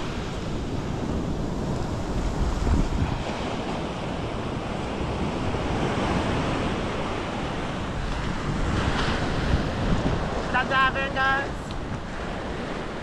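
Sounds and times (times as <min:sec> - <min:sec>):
ocean surf washing onto beach: 0:00.0 - 0:13.0
wind buffeting microphone: 0:00.0 - 0:13.0.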